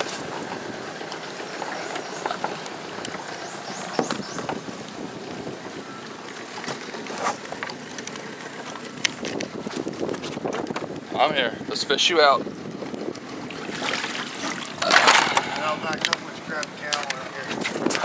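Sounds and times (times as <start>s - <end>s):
water sloshing and splashing: 0.0s - 10.8s, 12.6s - 18.0s.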